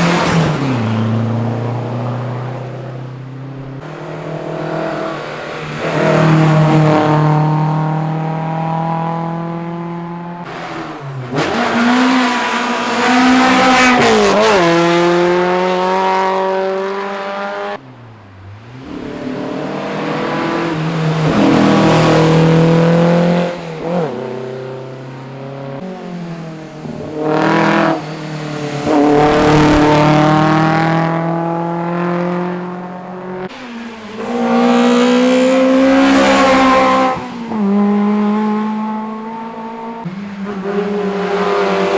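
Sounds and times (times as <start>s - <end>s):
rally car engines accelerating: 0.0s - 41.9s.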